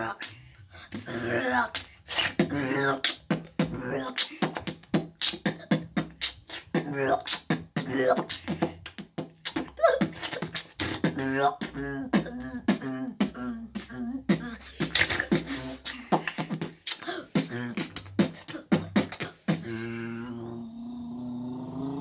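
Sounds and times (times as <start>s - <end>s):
boy beatboxing: 0.0s - 20.6s.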